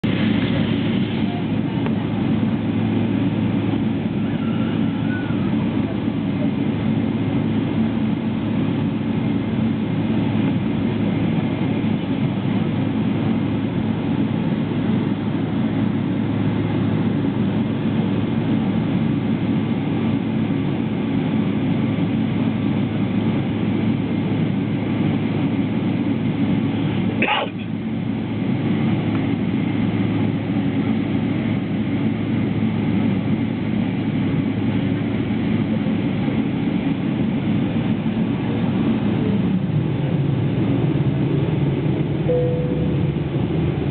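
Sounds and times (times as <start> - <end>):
airplane cabin drone: 0.0 - 43.9.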